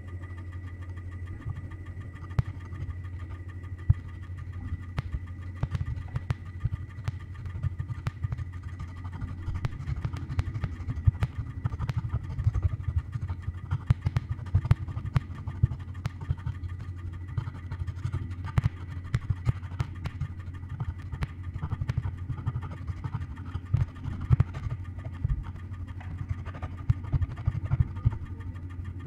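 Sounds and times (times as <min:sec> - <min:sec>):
dense low pulsing rumble: 0:00.0 - 0:29.0.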